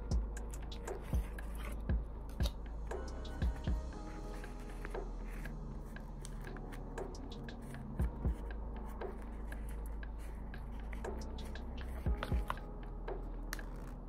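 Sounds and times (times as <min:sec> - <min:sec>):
leather wallet rubbing and creaking: 0:00.4 - 0:14.0.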